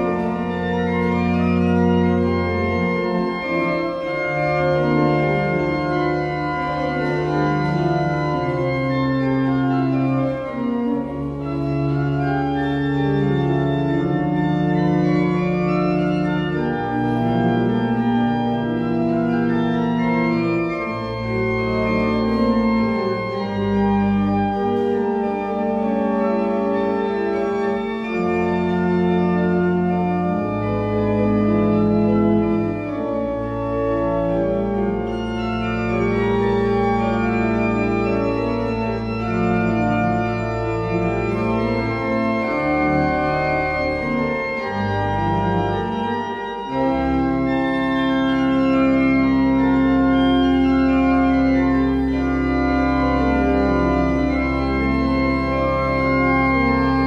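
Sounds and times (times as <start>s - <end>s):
church organ chords: 0.0s - 57.0s.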